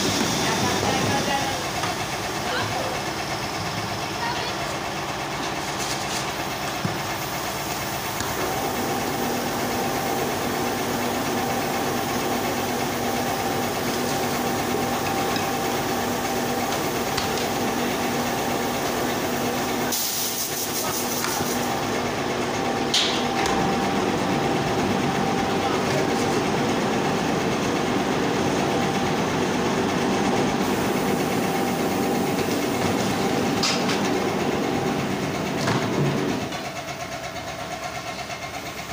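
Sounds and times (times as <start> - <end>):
factory machinery droning: 0.0 - 38.9.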